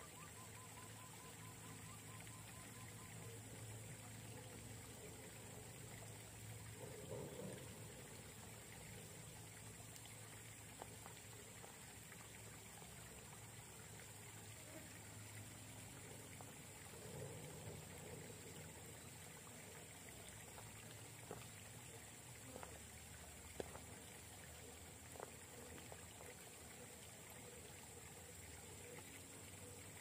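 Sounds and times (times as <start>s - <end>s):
faint outdoor hiss: 0.0s - 30.0s.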